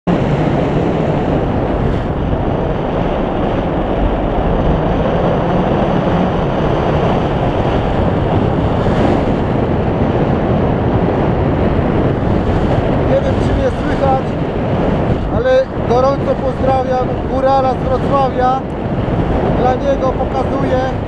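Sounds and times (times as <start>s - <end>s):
wind buffeting microphone: 0.1s - 21.0s.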